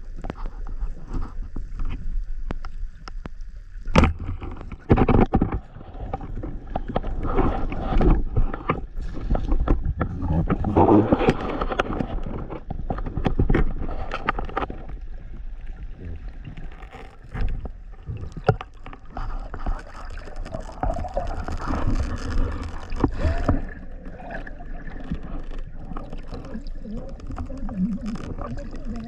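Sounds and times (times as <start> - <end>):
sea water sloshing and splashing: 3.9 - 29.0.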